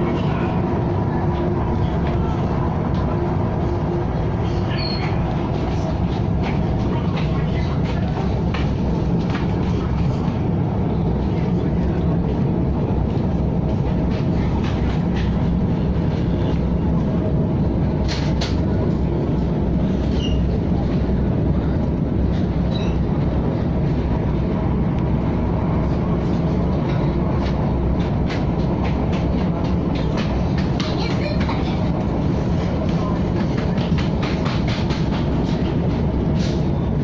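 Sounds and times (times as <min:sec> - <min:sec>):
electric train rumbling: 0:00.0 - 0:37.0.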